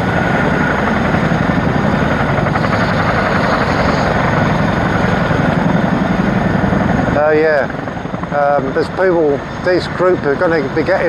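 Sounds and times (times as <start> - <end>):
helicopter rotor and turbine rush: 0.0 - 11.0.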